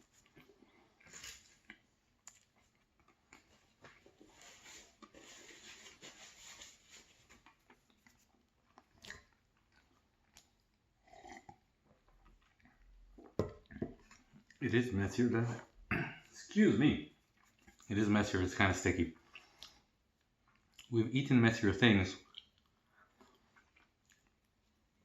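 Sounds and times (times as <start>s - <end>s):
faint chewing: 0.0s - 14.6s, 17.1s - 18.1s, 19.1s - 21.0s, 22.1s - 25.0s.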